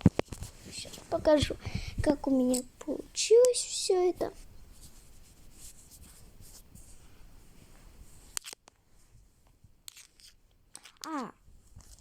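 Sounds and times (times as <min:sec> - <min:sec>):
rustling and handling noises: 0:00.0 - 0:12.0.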